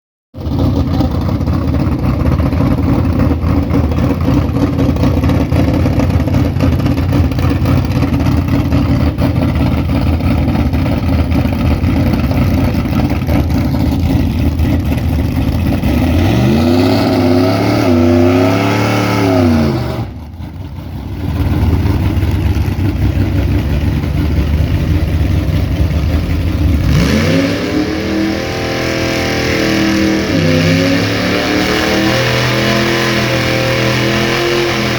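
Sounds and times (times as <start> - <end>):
car engine revving: 0.4 - 34.9.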